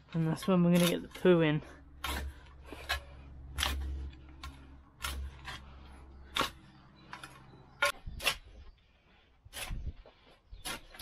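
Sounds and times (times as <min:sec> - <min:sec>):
spade digging in soil: 0:00.0 - 0:08.8, 0:09.4 - 0:11.0.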